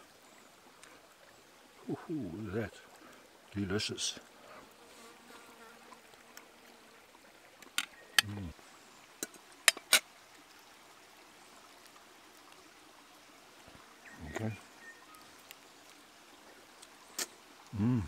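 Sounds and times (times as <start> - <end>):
creek trickling: 0.0 - 18.0.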